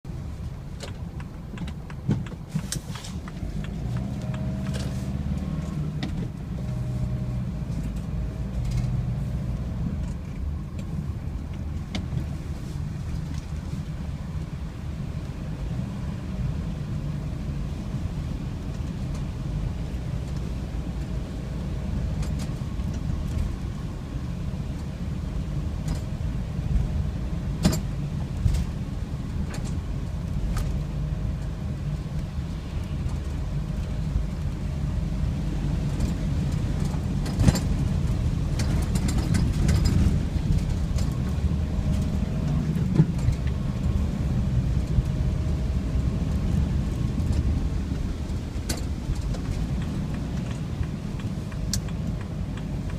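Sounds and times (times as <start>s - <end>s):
car driving through floodwater: 0.1s - 52.9s.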